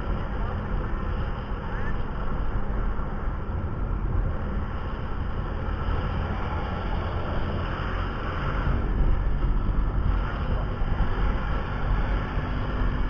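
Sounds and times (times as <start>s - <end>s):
vehicle rumble on road: 0.0s - 13.0s.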